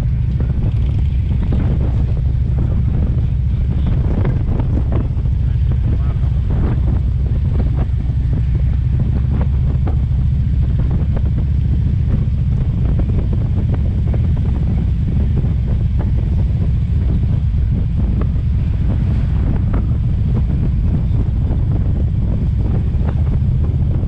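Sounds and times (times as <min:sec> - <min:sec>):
car road noise: 0:00.0 - 0:24.0
wind buffeting microphone: 0:00.0 - 0:24.0.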